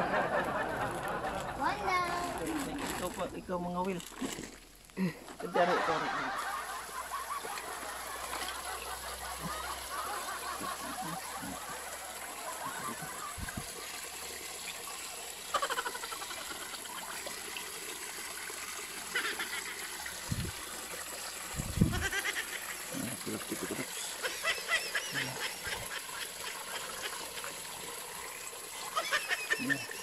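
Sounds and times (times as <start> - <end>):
stream trickling over rocks: 0.3 - 30.0.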